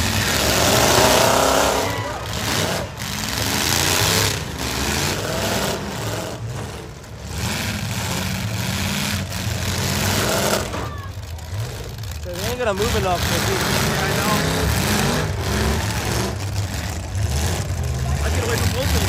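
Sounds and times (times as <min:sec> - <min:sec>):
truck engines revving hard: 0:00.0 - 0:19.0
trucks colliding: 0:00.0 - 0:19.0.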